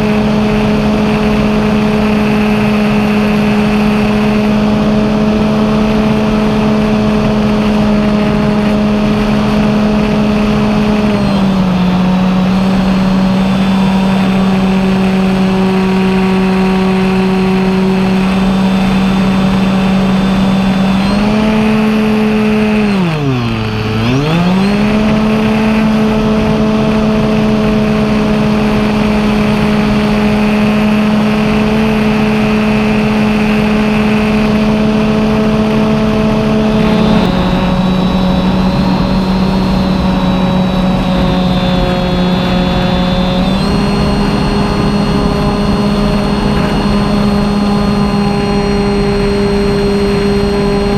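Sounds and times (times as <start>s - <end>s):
model plane motor buzzing: 0.0s - 50.9s.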